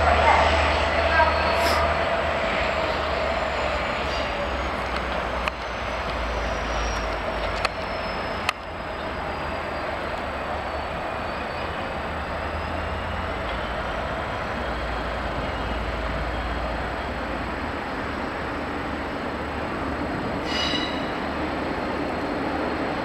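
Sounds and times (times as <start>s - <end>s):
trains rumbling and hissing: 0.0s - 23.0s.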